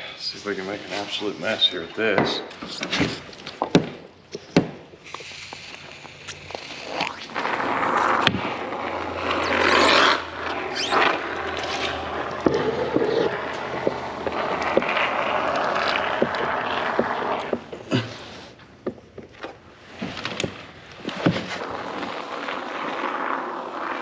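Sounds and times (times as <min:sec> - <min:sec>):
foam crackling and clicking: 0:02.5 - 0:17.9, 0:19.3 - 0:24.0.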